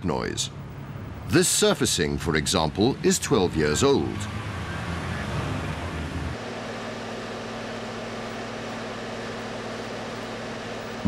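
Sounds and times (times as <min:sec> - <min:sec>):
road traffic rumble: 0:00.0 - 0:11.0
truck engine humming: 0:00.2 - 0:11.0.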